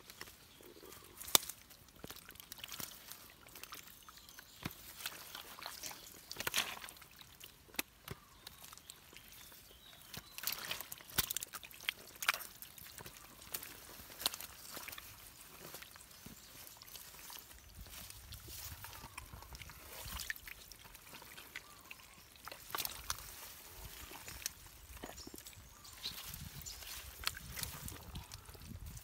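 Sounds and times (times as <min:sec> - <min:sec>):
hands sloshing in mud: 0:01.2 - 0:29.0.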